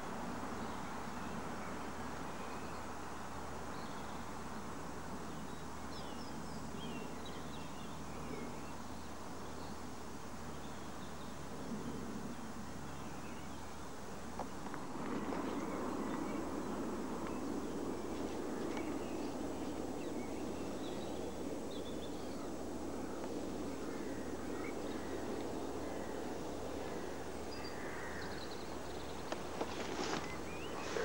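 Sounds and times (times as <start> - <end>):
low rushing background noise: 0.0 - 31.0.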